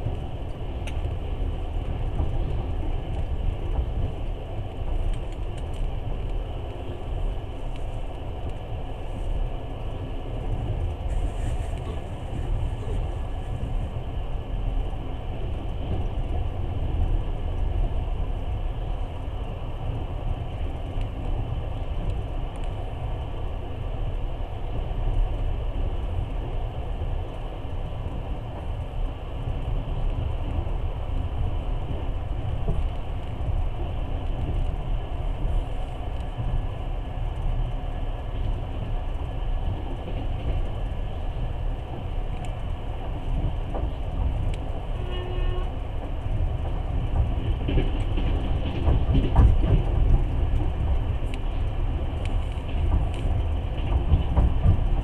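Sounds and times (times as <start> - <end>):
train low rumble: 0.0 - 55.0.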